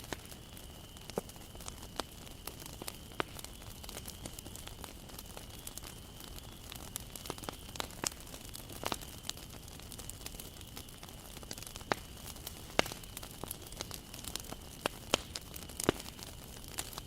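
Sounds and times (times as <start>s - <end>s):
fire hissing: 0.0s - 17.0s
wood fire crackling: 0.0s - 17.0s.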